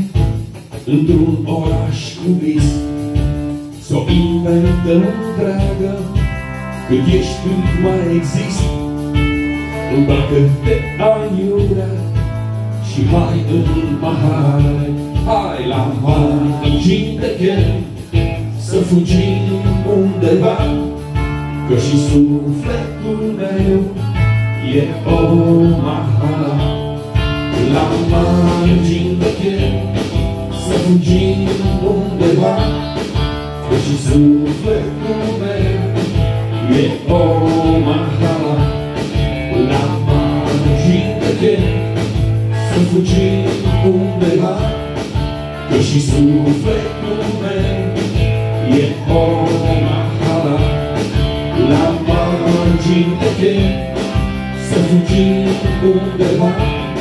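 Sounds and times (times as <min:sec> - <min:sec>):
electric guitar: 0:00.0 - 0:57.0
live band music: 0:00.0 - 0:57.0.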